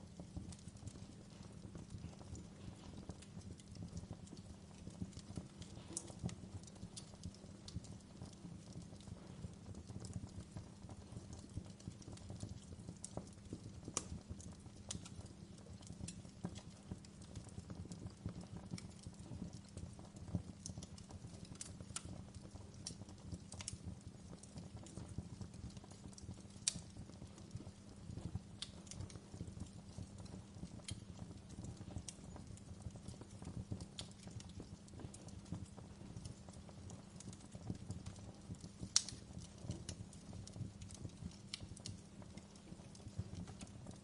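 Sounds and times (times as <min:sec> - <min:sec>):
low steady fire rumble: 0:00.0 - 0:44.0
wood fire crackling and popping: 0:00.0 - 0:44.0.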